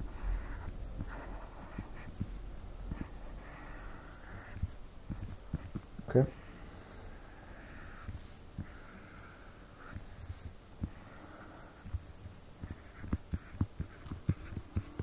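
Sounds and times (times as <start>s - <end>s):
faint pen scratching: 0.0s - 6.6s, 7.3s - 15.0s.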